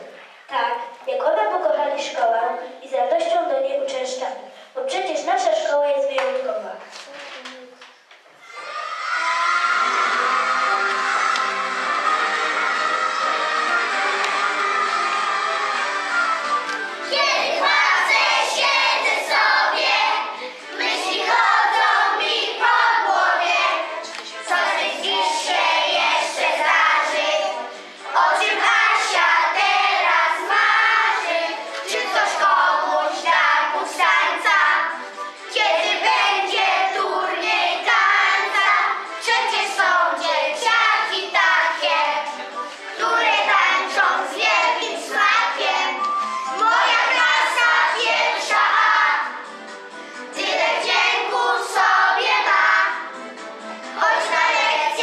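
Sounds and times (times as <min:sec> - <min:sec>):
children singing together: 0:08.4 - 0:49.5, 0:50.1 - 0:53.2, 0:53.8 - 0:55.0.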